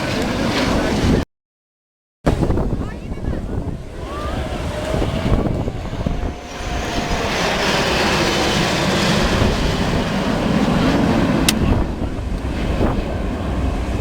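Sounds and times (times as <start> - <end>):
aircraft flying past: 0.0 - 1.2, 2.3 - 14.0
wind buffeting microphone: 0.0 - 1.2, 2.3 - 14.0.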